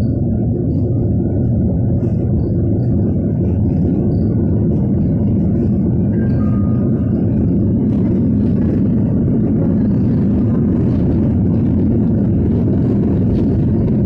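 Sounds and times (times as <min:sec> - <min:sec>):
bus rumble from inside: 0:00.0 - 0:14.0.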